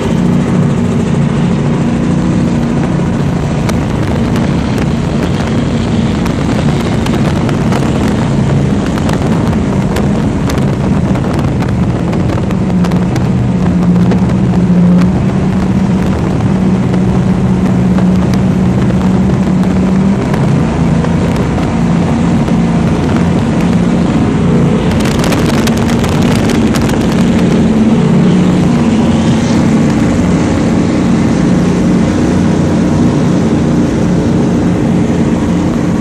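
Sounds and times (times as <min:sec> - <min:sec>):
rushing clicking noise: 0:00.0 - 0:31.0
powerboat engine drone: 0:00.0 - 0:36.0.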